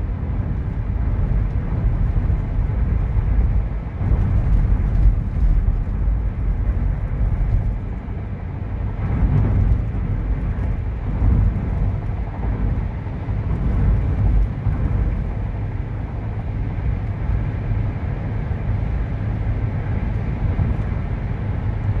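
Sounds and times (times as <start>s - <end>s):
tyres rumbling on road: 0.0s - 22.0s.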